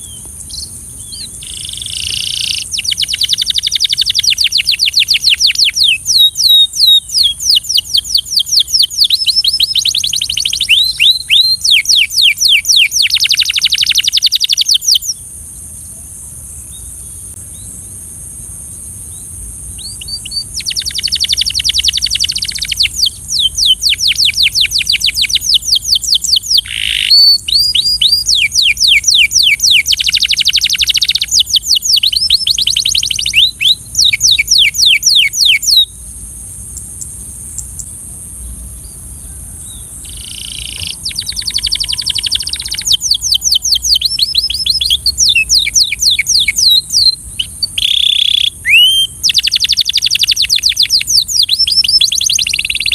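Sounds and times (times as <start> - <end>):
canary singing trills: 0.0 - 15.2, 19.7 - 36.0, 38.8 - 52.9
steady high-pitched hiss: 0.0 - 52.9.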